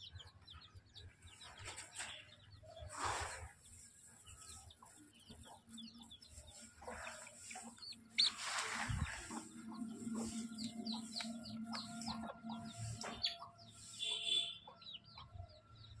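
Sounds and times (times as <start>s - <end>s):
birds chirping falling calls: 0.0s - 16.0s.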